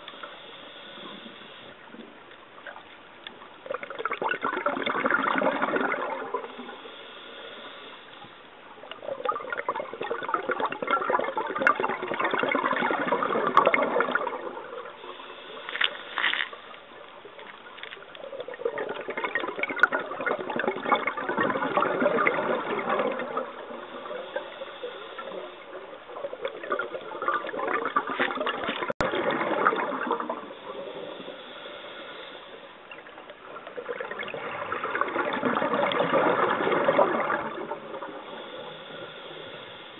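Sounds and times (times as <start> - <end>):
exhaled bubbles gurgling underwater: 0.0 - 15.7, 16.5 - 39.9.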